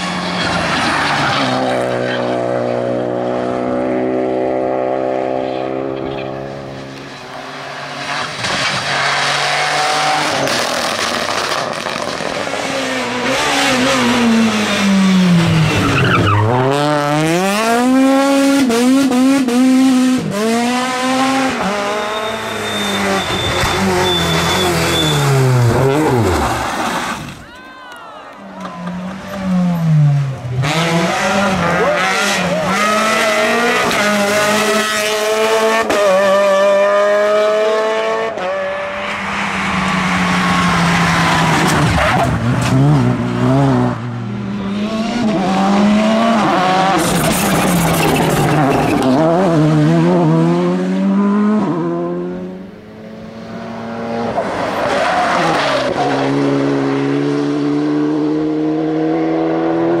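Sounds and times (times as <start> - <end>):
rally car engines at full throttle: 0.0 - 27.6, 28.3 - 60.0.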